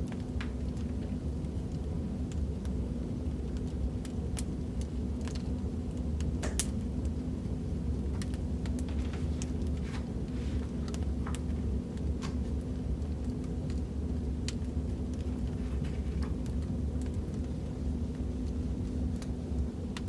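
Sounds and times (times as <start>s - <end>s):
crackling fireplace fire: 0.0s - 20.0s.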